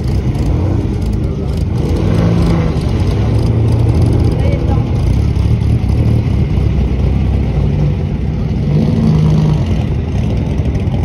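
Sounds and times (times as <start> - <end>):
racing car engines running rough: 0.0 - 11.0.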